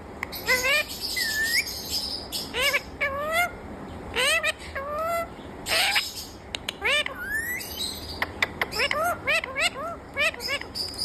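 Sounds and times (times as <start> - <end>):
parakeet calling: 0.3 - 11.0.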